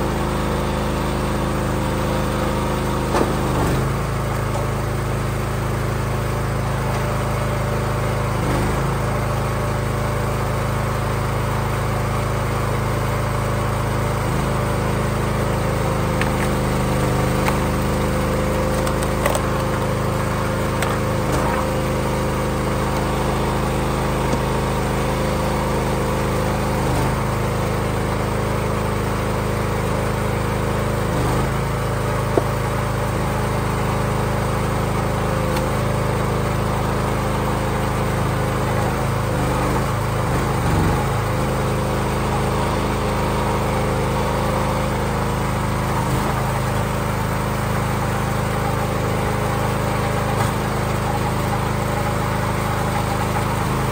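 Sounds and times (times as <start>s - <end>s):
log splitter engine running: 0.0s - 53.9s.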